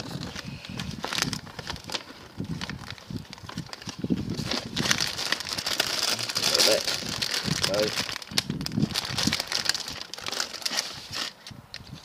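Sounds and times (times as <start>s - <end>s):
plastic bags crinkling: 0.0s - 11.4s.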